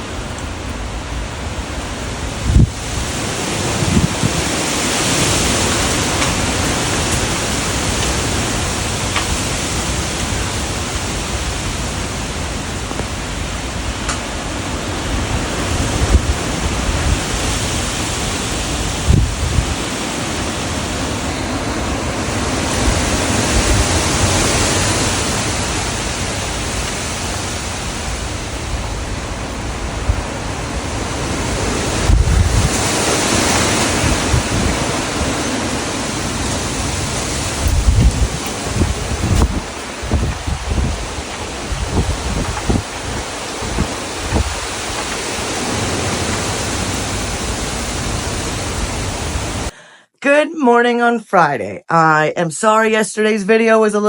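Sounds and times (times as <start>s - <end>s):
wind buffeting microphone: 0.0s - 49.7s
strong wind rushing: 0.0s - 49.8s.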